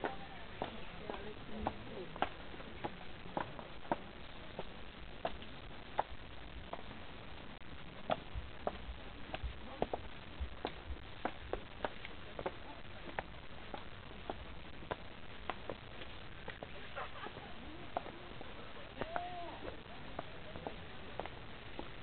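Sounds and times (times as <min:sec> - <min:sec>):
faint steady hiss: 0:00.0 - 0:22.0
footsteps on hard path: 0:00.0 - 0:22.0.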